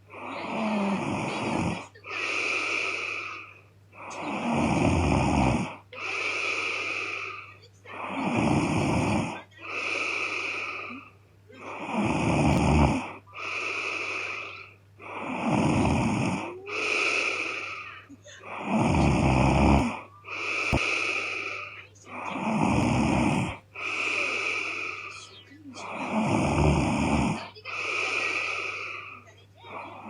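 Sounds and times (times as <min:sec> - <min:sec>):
woman snoring: 0:00.0 - 0:30.0.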